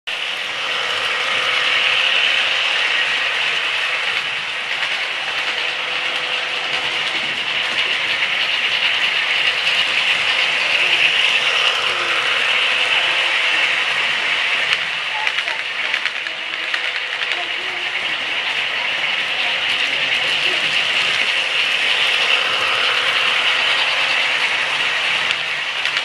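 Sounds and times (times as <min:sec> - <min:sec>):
model train motors whirring: 0:00.1 - 0:26.0
wheels clicking on track: 0:00.1 - 0:26.0.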